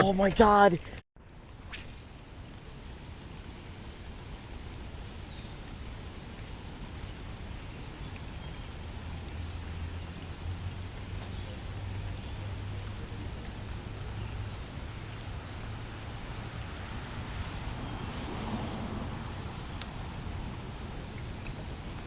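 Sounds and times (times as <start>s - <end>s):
heavy rain falling: 3.2s - 22.0s.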